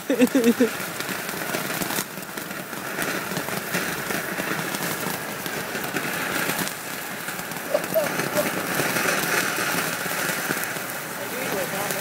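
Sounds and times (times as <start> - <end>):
firework hissing and crackling: 0.0 - 12.0.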